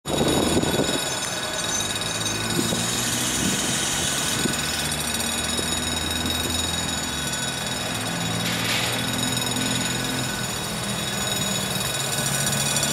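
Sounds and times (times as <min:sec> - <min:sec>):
diesel locomotive engine droning: 0:00.0 - 0:12.9.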